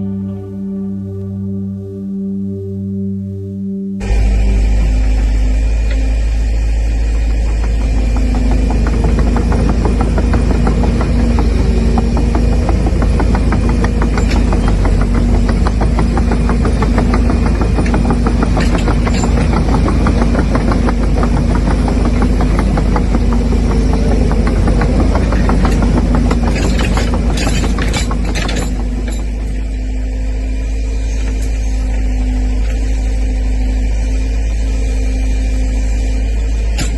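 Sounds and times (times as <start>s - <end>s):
diesel engine knocking: 4.0s - 36.9s.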